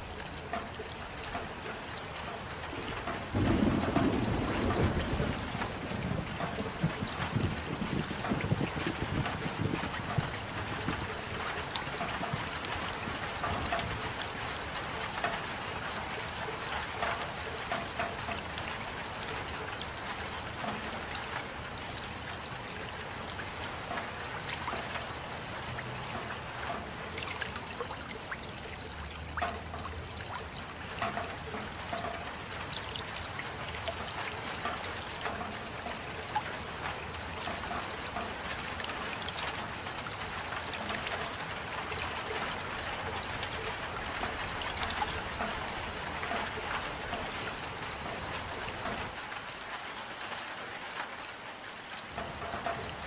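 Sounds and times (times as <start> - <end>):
rain falling: 0.0 - 53.0
water trickling: 0.0 - 53.0.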